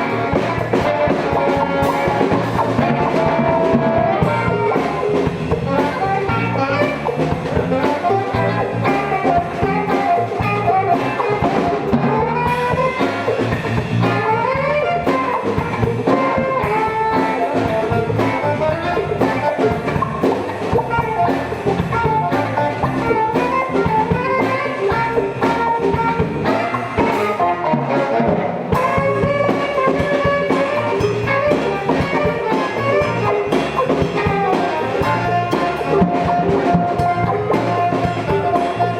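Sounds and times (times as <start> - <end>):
live jazz-funk band: 0.0 - 38.9.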